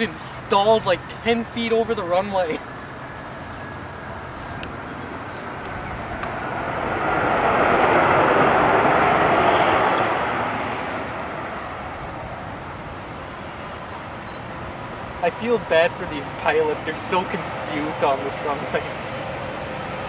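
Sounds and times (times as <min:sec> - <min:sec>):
jet engines rushing with whine: 0:00.0 - 0:20.0.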